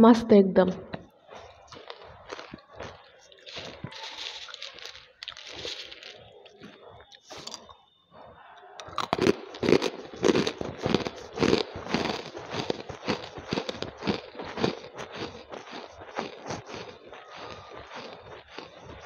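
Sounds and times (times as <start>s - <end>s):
crunching hard crystals with teeth: 1.3s - 7.8s, 8.8s - 19.0s.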